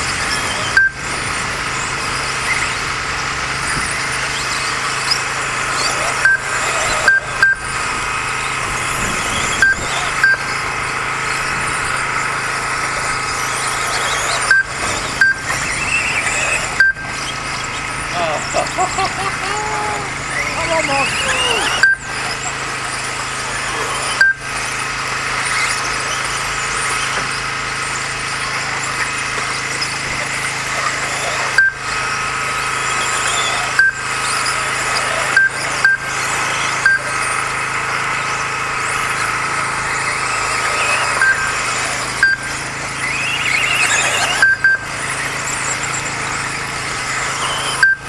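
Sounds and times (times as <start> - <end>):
rc buggy motors whining: 0.0 - 48.0.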